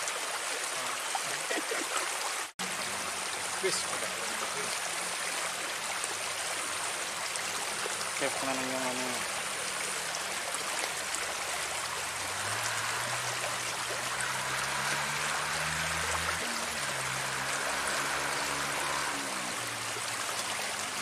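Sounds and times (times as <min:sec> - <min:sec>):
water trickling in a ditch: 0:00.0 - 0:21.0.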